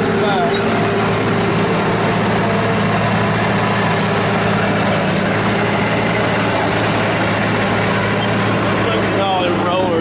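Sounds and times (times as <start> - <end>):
dozer diesel engine droning: 0.0 - 10.0
track roller squeaking: 0.0 - 10.0.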